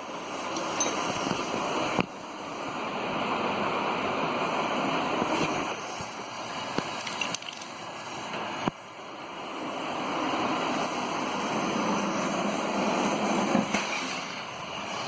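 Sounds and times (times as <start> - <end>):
gas rushing hiss: 0.0 - 7.0, 7.7 - 15.0.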